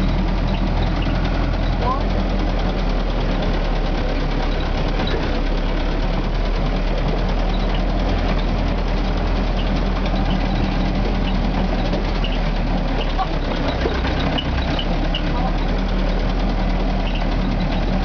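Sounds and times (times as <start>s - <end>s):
engine clatter: 0.0s - 18.0s
vehicle engine running under load: 0.0s - 18.0s.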